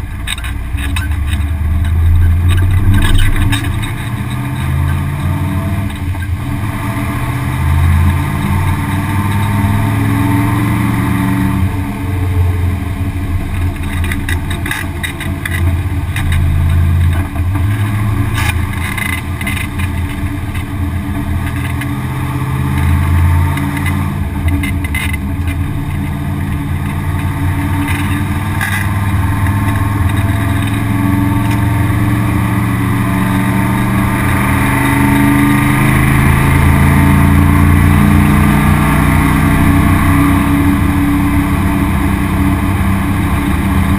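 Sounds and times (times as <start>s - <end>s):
race car engine running: 0.0s - 43.9s.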